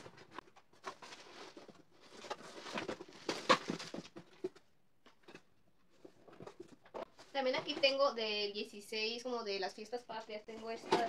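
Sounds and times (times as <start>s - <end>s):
plastic and cardboard rustling: 0.0s - 8.6s, 9.3s - 11.0s.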